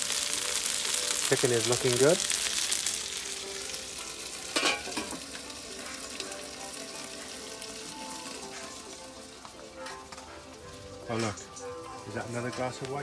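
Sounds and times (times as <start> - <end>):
chicken sizzling in hot fat: 0.0 - 13.0.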